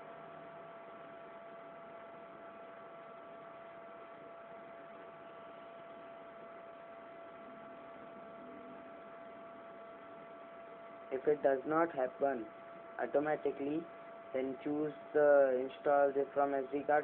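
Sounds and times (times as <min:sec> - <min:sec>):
electrical hum and hiss: 0:00.0 - 0:17.0
thin constant whine: 0:00.0 - 0:17.0.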